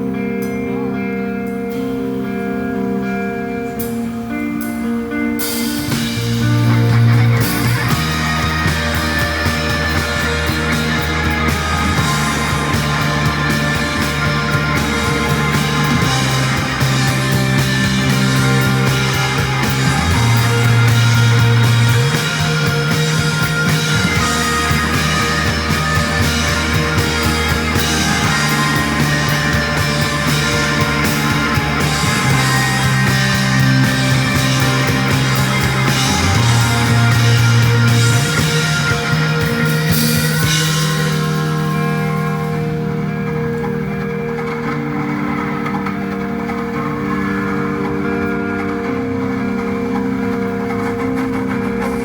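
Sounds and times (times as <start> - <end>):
bass guitar: 0.0 - 52.0
electric guitars: 0.0 - 52.0
keyboard chords: 0.0 - 52.0
drums and cymbals: 3.6 - 52.0.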